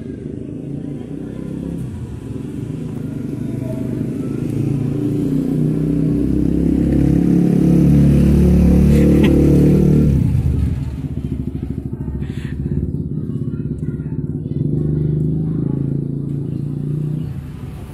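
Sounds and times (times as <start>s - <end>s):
motorcycle engine passing: 0.0s - 17.9s.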